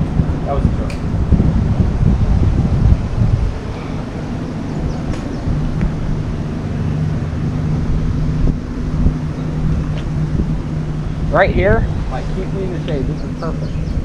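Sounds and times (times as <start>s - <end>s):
boat motor humming: 0.0s - 14.0s
wind buffeting microphone: 0.0s - 14.0s.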